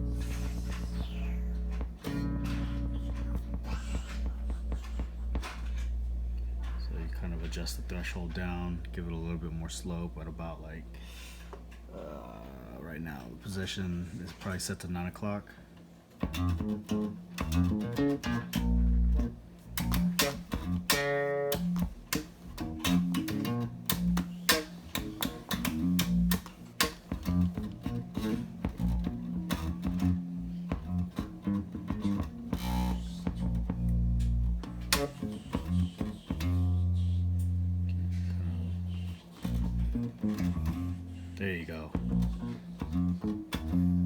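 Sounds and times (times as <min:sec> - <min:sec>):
bass guitar plucked notes: 0:00.0 - 0:10.9, 0:16.2 - 0:44.0.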